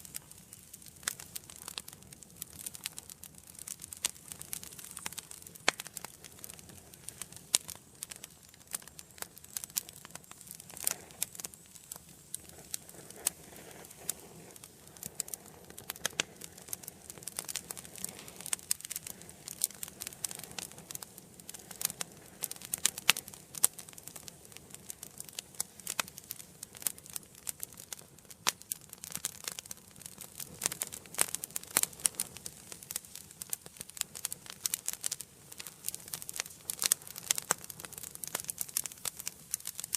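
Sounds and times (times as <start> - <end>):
flame hissing: 0.0 - 39.9
wood fire crackling: 0.0 - 39.9.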